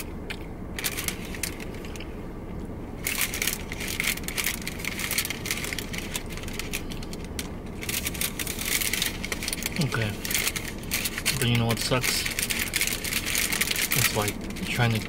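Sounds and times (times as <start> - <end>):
food packaging crinkling: 0.0 - 2.1, 3.0 - 15.0
low rumble: 0.0 - 15.0.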